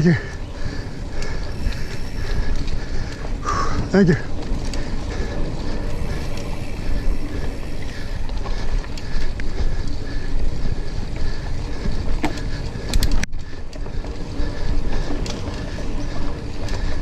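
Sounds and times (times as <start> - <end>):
bike clicks and rattles: 0.0 - 17.0
bike tyres rumbling on dirt: 0.0 - 17.0.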